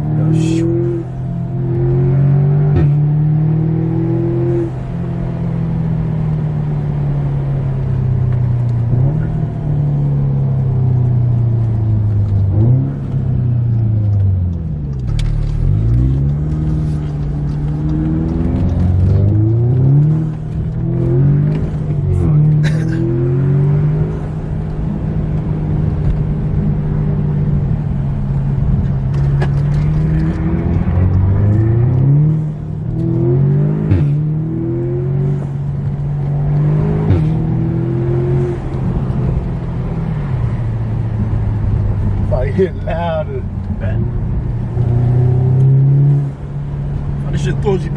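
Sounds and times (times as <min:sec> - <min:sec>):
car engine accelerating: 0:00.0 - 0:47.9.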